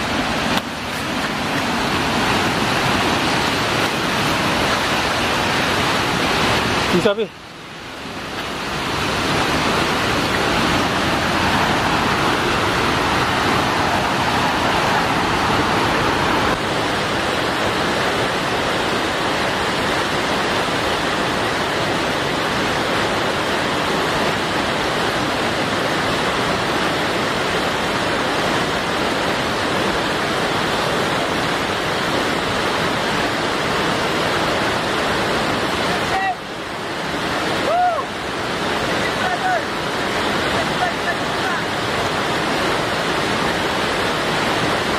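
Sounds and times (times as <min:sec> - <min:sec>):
waterfall roaring: 0:00.0 - 0:44.9.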